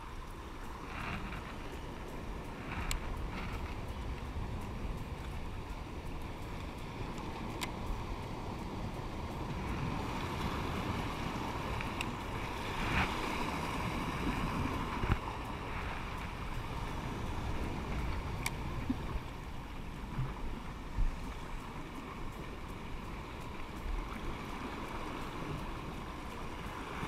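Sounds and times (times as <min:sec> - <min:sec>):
sharp ticks: 0:00.0 - 0:20.0, 0:20.7 - 0:27.0
surf washing over rocks: 0:00.0 - 0:27.0
wind buffeting microphone: 0:00.0 - 0:27.0.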